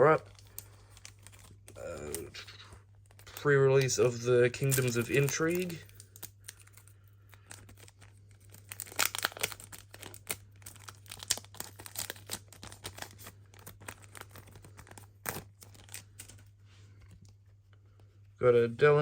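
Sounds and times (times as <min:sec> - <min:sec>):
foil wrapper tearing and crinkling: 0:00.0 - 0:02.4, 0:03.0 - 0:16.5.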